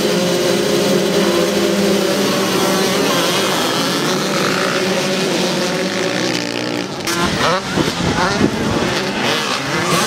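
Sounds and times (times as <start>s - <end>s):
motocross bikes revving: 0.0s - 10.0s.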